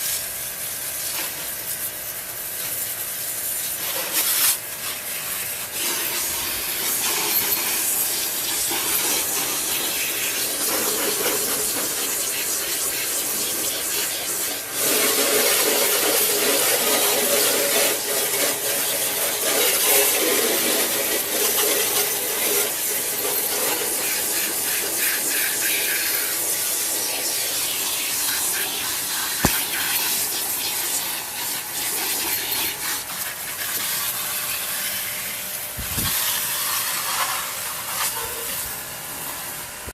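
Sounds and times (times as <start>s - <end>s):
water spraying hiss: 0.0s - 39.9s.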